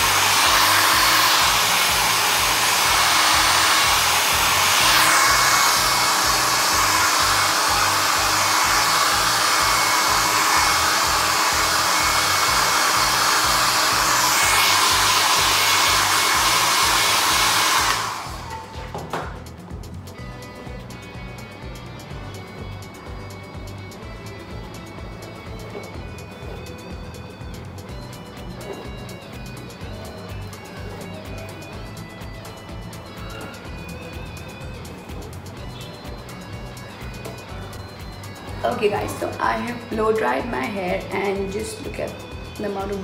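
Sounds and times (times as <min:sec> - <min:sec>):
background music with beat: 0:00.0 - 0:43.0
hair dryer blowing: 0:00.0 - 0:43.0.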